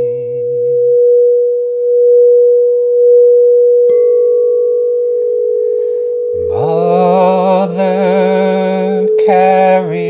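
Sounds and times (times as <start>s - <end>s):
singing bowl ringing: 0.0s - 10.0s.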